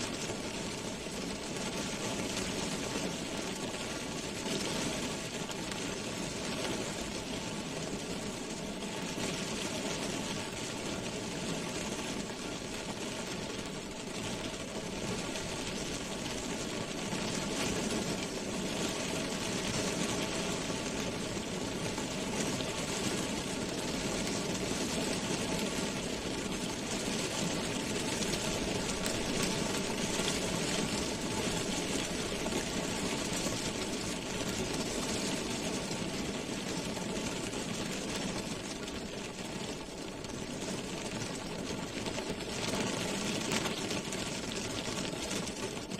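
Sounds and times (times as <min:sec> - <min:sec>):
rain drumming on a car roof: 0:00.0 - 0:45.9.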